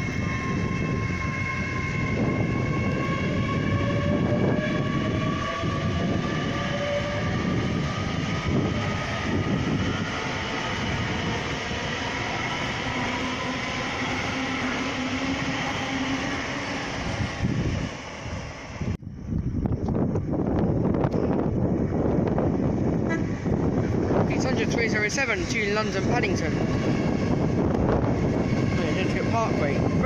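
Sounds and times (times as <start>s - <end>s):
train rumbling: 0.0s - 30.0s
train whine rising in pitch: 0.0s - 30.0s.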